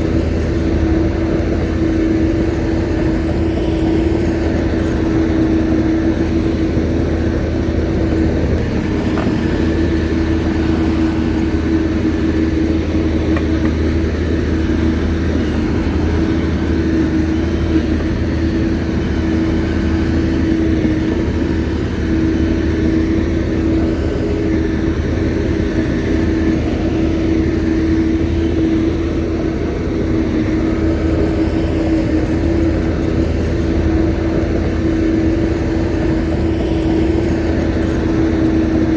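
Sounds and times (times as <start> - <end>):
bulldozer diesel engine drone: 0.0 - 38.9
steady engine whine: 0.0 - 38.9.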